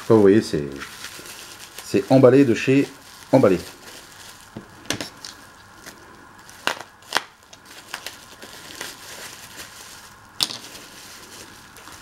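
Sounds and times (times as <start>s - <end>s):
plastic wrapping crackling: 0.0s - 12.0s.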